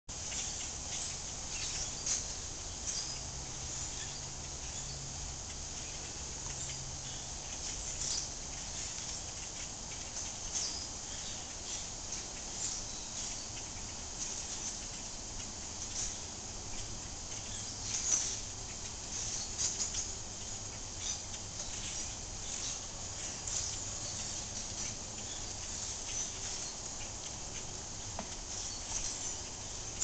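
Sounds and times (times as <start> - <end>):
flock of birds chirping: 0.1 - 30.0.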